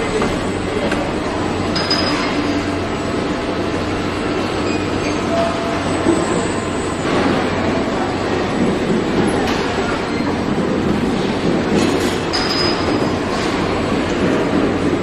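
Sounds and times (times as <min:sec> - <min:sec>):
mechanical din with low hum: 0:00.0 - 0:15.0.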